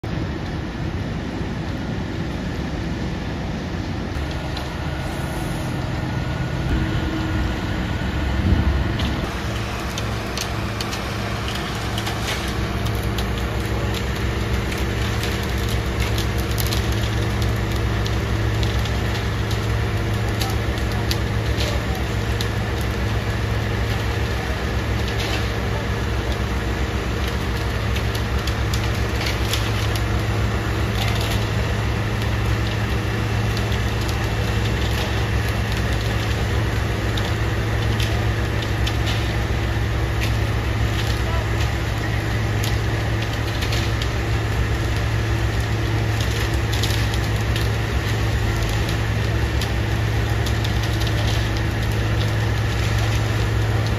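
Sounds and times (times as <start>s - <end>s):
diesel engine running: 0.0s - 53.9s
gritty crackles and clicks: 4.1s - 5.8s, 6.6s - 53.9s.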